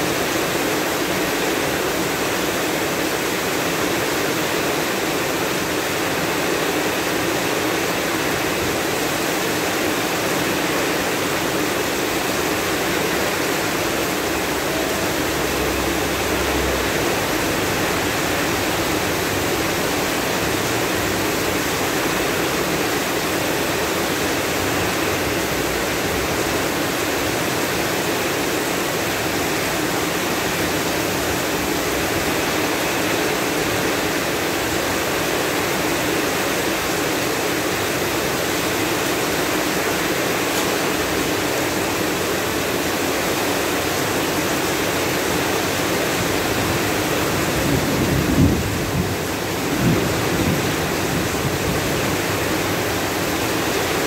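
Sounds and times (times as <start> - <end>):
heavy rain on street and rooftops: 0.0 - 54.0.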